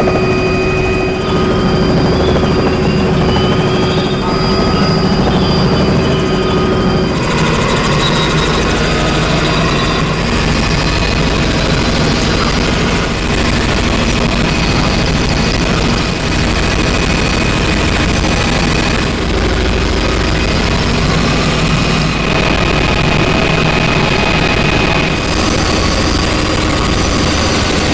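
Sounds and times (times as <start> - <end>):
helicopter cabin noise: 0.0 - 27.9.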